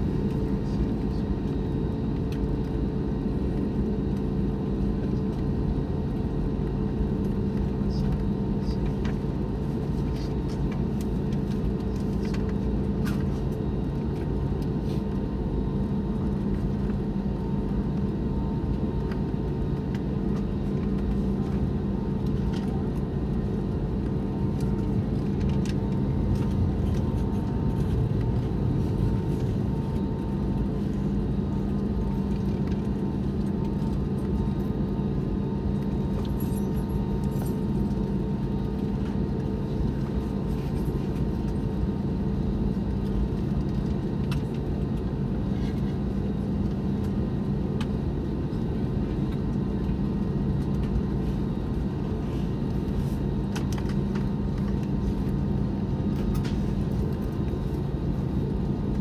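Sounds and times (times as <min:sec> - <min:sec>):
jet engines humming in cabin: 0:00.0 - 0:59.0.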